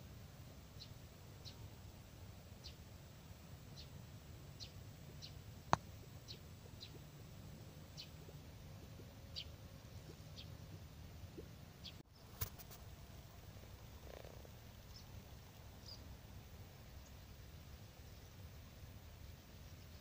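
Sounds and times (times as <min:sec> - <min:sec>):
faint low rumble: 0:00.0 - 0:20.0.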